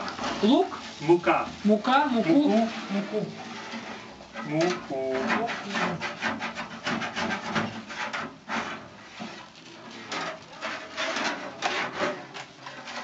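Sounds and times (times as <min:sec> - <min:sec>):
metal spatula scraping a tray: 0:00.0 - 0:13.0.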